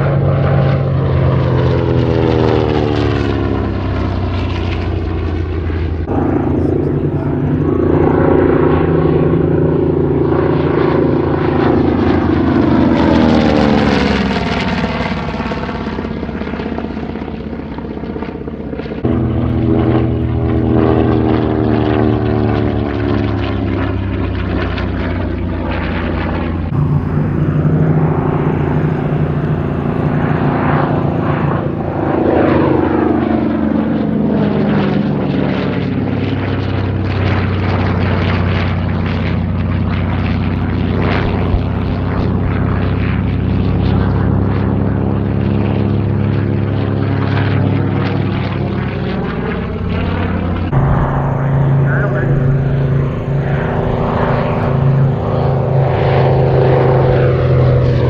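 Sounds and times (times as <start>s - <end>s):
propeller aircraft engine drone: 0.0s - 58.0s.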